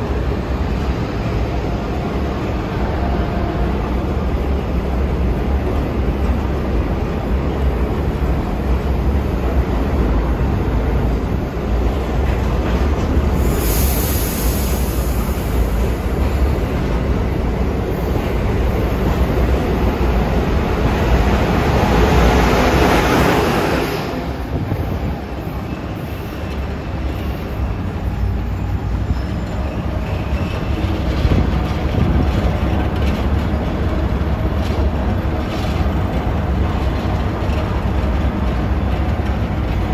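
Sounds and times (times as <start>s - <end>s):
rumble of wheels on track: 0.0s - 39.9s
train passing: 0.0s - 39.9s.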